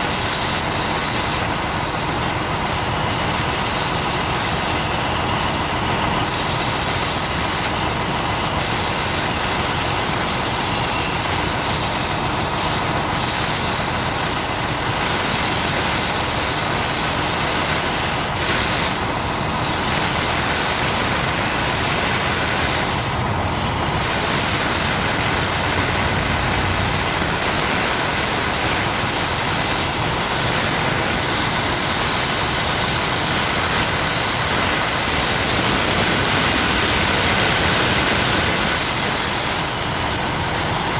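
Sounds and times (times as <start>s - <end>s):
compressed air hissing: 0.0s - 40.9s.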